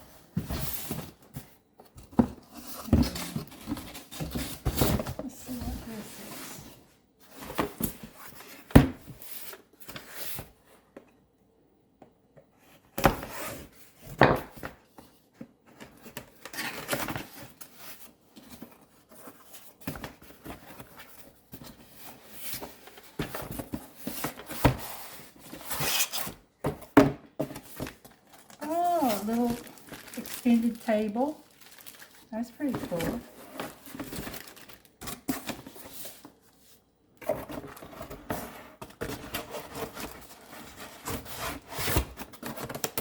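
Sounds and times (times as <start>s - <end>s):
packaging rustling and scraping: 0.0s - 10.8s, 14.8s - 43.0s.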